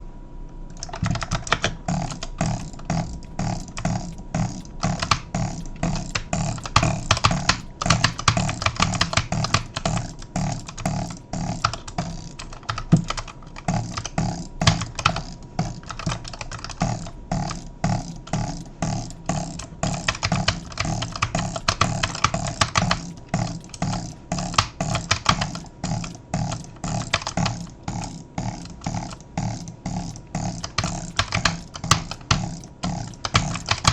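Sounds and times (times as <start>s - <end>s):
low pulsing hum: 0.0s - 33.9s
rapid irregular clicking: 0.7s - 33.9s.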